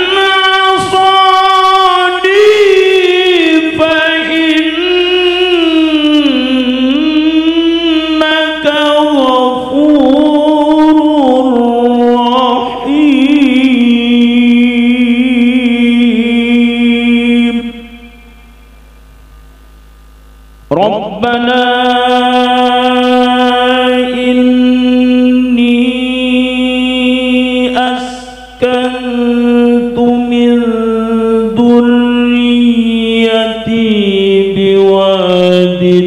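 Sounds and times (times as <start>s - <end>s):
man chanting recitation into microphone: 0.0s - 18.6s, 20.6s - 36.0s.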